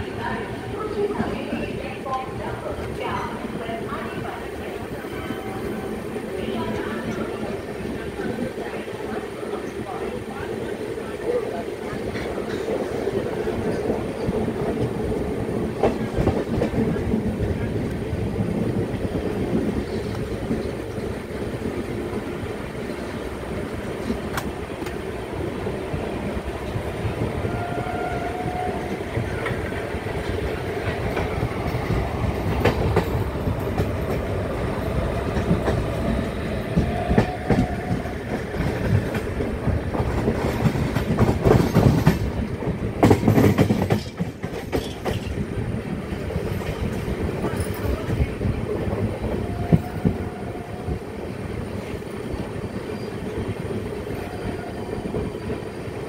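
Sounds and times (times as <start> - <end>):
train coach rumbling: 0.0 - 56.0.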